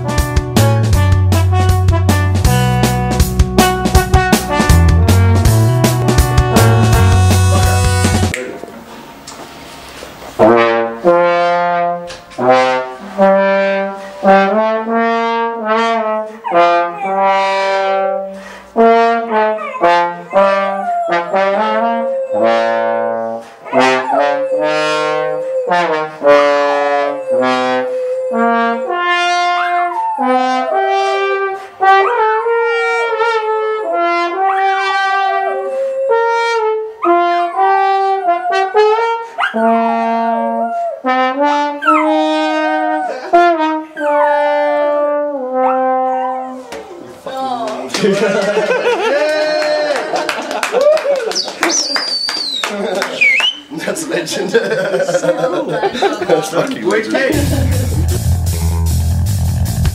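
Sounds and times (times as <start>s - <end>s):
brass instrument playing held notes: 0.0s - 8.4s, 10.4s - 46.7s, 55.5s - 59.9s.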